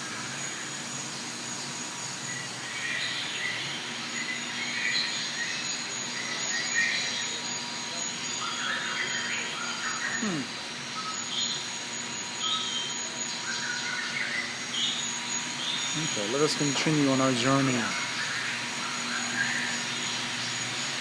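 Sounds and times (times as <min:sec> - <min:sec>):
steady background hiss: 0:00.0 - 0:21.0
small birds chirping: 0:00.1 - 0:21.0.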